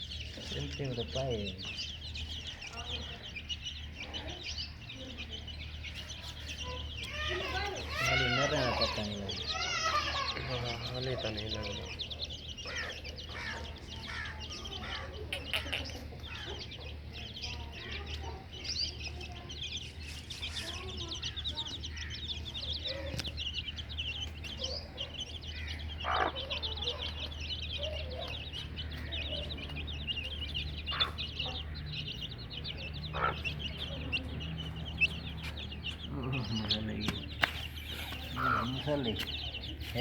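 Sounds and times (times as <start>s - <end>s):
chicks peeping: 0.0s - 40.0s
lower bird calls: 0.0s - 40.0s.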